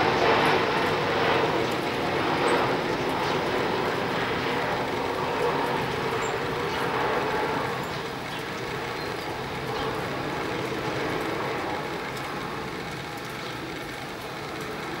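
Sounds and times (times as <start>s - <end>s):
continuous even rush: 0.0s - 15.0s.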